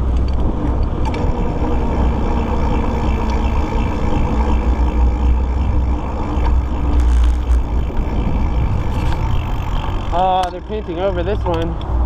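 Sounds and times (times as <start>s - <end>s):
tyre and road noise: 0.0s - 12.0s
wind buffeting microphone: 0.0s - 12.0s.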